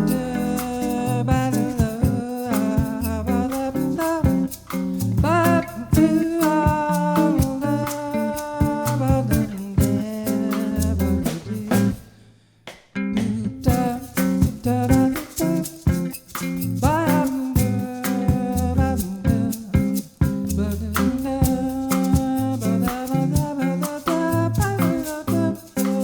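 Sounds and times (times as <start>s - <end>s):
plucked bass notes: 0.0s - 12.0s, 13.2s - 23.6s, 24.2s - 25.7s.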